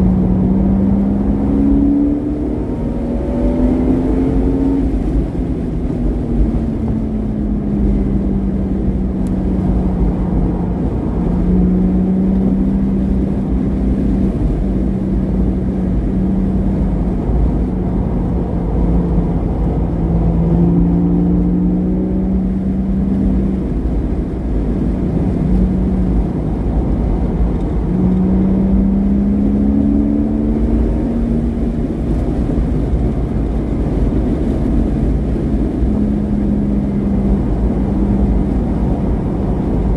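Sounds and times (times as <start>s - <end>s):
heavy steady rumble: 0.0s - 39.9s
sports car engine revving: 0.0s - 39.9s.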